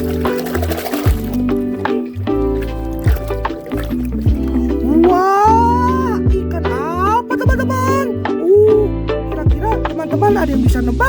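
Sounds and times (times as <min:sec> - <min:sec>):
background music with bass notes: 0:00.0 - 0:11.0.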